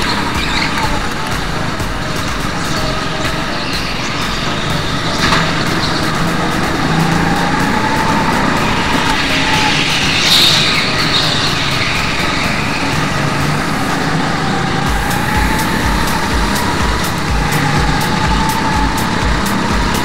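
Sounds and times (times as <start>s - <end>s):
background music with beat: 0.0s - 20.0s
go-kart motor revving: 0.0s - 20.0s.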